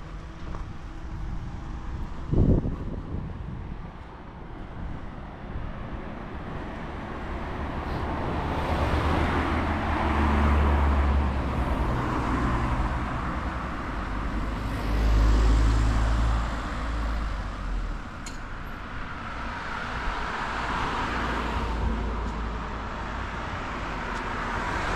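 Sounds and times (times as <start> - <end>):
cars passing: 0.0 - 24.9.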